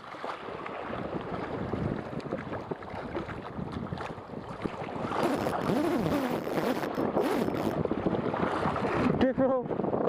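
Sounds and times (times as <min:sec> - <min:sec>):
wind buffeting microphone: 0:00.4 - 0:10.0.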